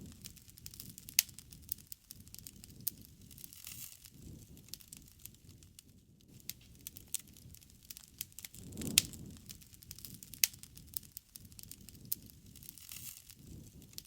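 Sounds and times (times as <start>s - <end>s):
campfire crackling: 0.0s - 14.0s
low rumble of flame: 0.0s - 14.0s.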